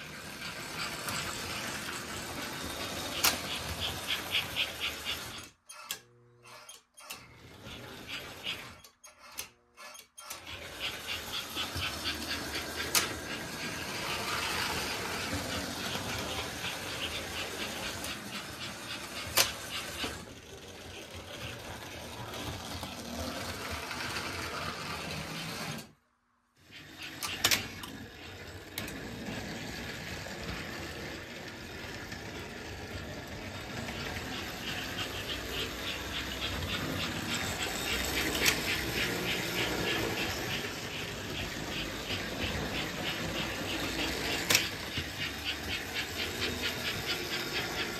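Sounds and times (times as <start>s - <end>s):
toy train motor and wheels rumbling: 0.0s - 26.0s, 26.6s - 47.9s.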